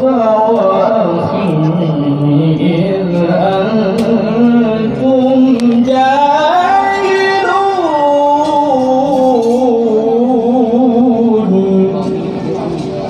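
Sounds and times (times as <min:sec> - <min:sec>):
man reciting melodically: 0:00.0 - 0:12.8.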